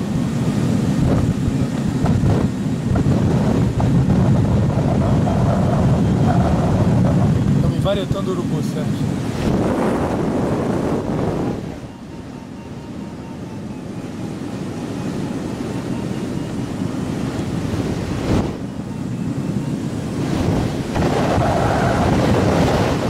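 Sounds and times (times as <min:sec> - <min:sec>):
airflow rushing over canopy: 0:00.0 - 0:23.0.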